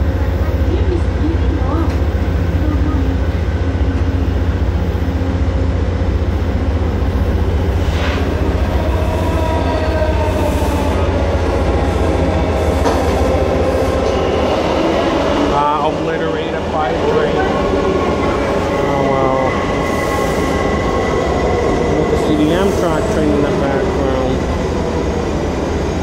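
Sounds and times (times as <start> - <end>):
train rumble: 0.0 - 26.0
wavering train whine: 0.0 - 26.0.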